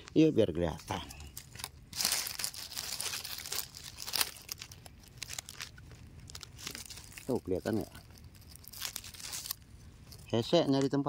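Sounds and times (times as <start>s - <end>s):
dry leaves rustling and crackling: 0.2s - 10.8s.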